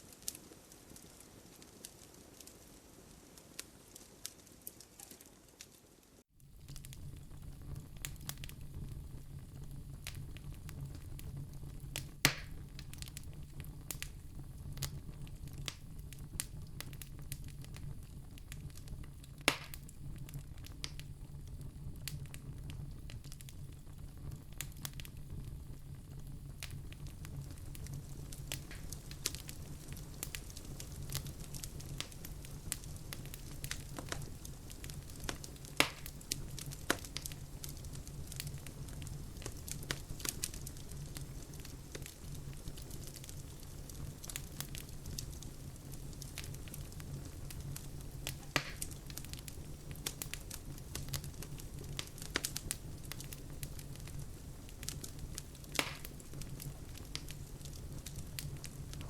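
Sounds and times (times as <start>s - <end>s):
sharp pops from fire: 0.0s - 5.9s, 6.5s - 59.0s
low rumble of flames: 0.0s - 59.0s
wood fire crackling: 0.0s - 59.0s.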